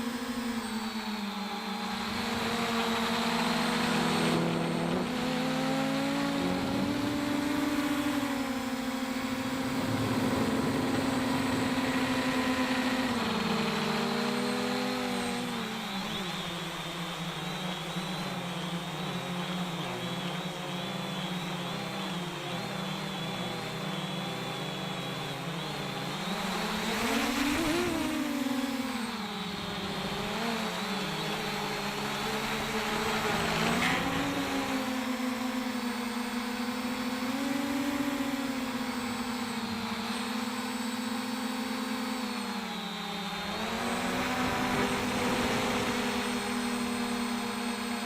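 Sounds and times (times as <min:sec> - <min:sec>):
drone motors humming: 0:00.0 - 0:48.0.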